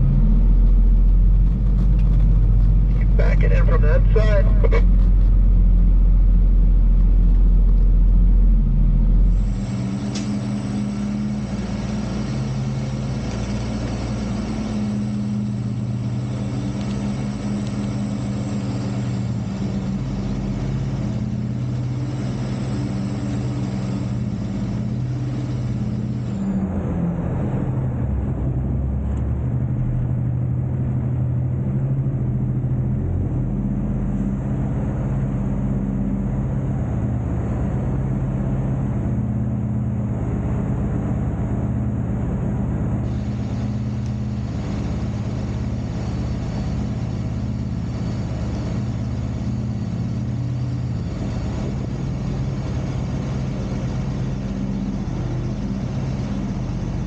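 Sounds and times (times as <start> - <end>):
diesel truck engine droning: 0.0 - 57.0
heavy engine rumble: 0.0 - 57.0.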